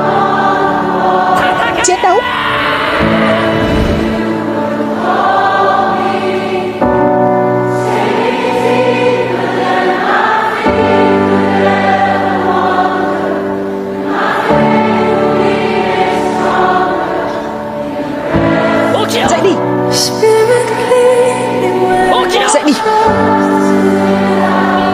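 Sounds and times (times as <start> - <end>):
choir singing sustained chords: 0.0 - 24.9.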